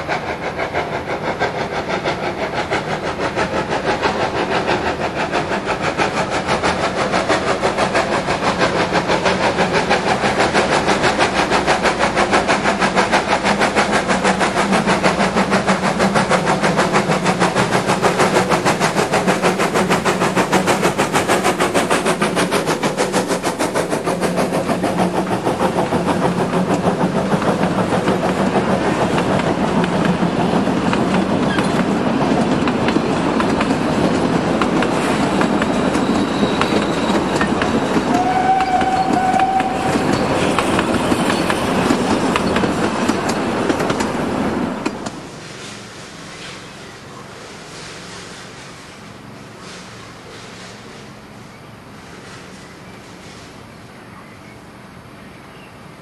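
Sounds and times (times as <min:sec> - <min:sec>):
wheels clattering on rails: 0:00.0 - 0:48.8
steam locomotive chuffing: 0:00.0 - 0:55.2.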